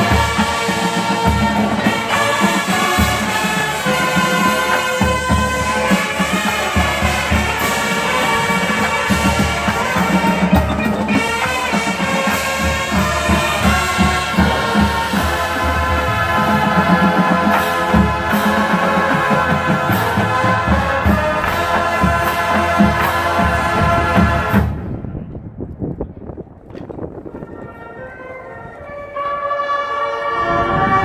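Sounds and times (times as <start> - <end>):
marching band playing: 0.0 - 25.1, 27.4 - 31.0.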